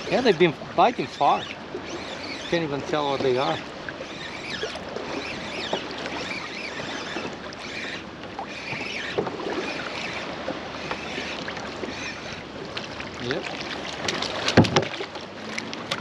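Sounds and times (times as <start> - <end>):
water lapping around a kayak: 0.0 - 16.0.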